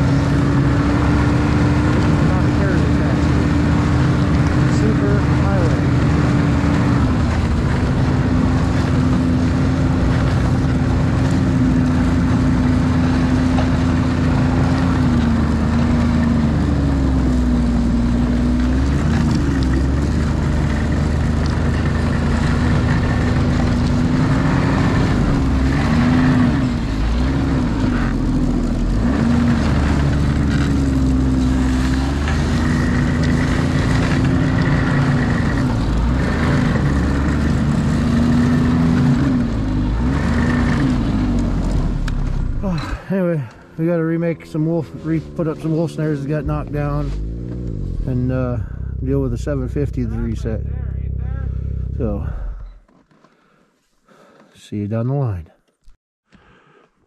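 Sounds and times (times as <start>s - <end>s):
snowmobile engine running: 0.0s - 52.8s.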